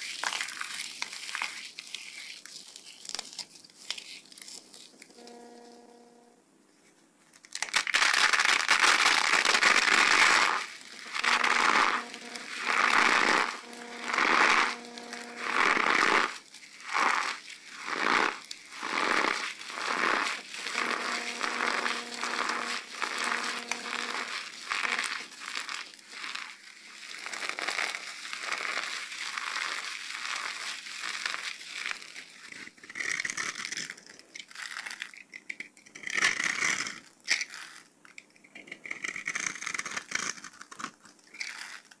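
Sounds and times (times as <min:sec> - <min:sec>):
dry soap crunching in hands: 0:00.0 - 0:05.6, 0:07.3 - 0:42.0.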